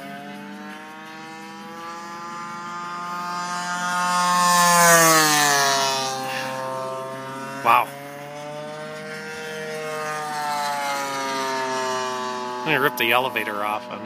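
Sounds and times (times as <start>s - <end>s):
model plane engine passing: 0.0s - 14.0s.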